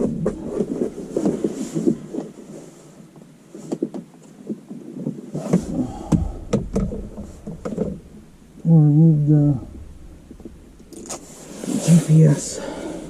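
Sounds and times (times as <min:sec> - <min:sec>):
hands rustling parts and wiring: 0:00.0 - 0:08.7, 0:09.7 - 0:12.6.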